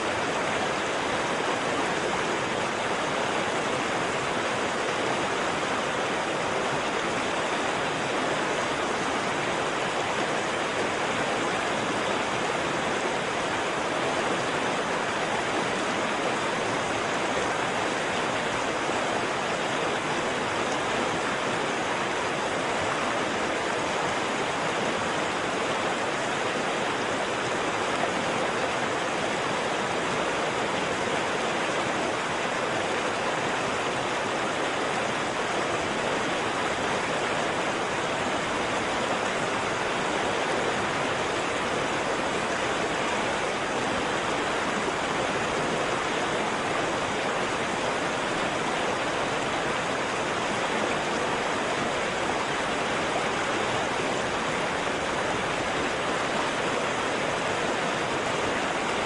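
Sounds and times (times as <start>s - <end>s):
waterfall roar: 0.0s - 59.0s.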